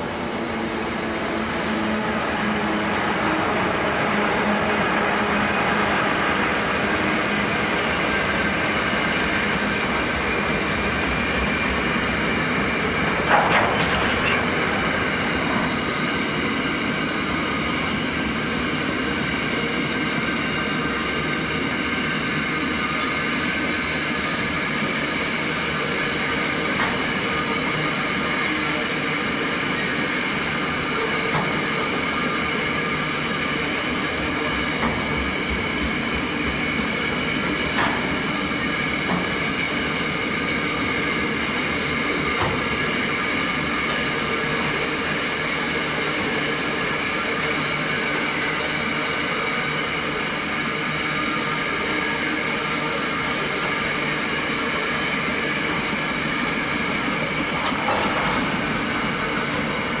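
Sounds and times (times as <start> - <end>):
freight train wheels rumbling: 0.0 - 60.0.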